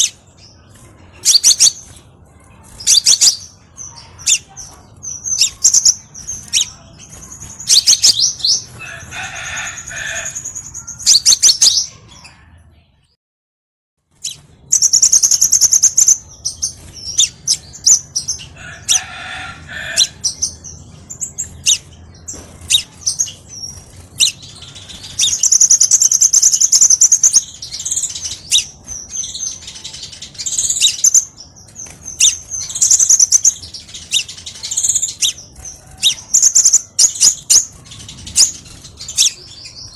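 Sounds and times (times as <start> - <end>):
bird chirping and trilling: 0.0 - 12.6, 14.1 - 39.9.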